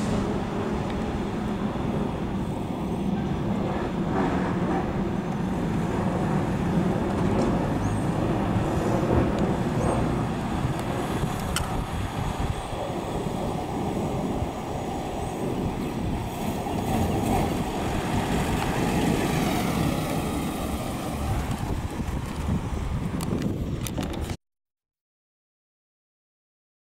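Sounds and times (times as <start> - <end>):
car engine rumbling: 0.0 - 24.3.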